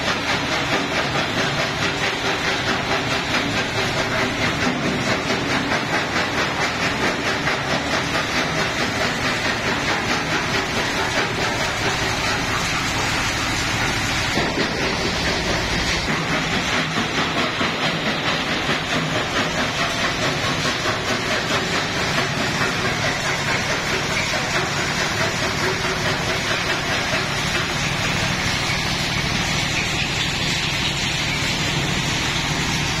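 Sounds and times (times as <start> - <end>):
stone crusher clattering: 0.0 - 33.0.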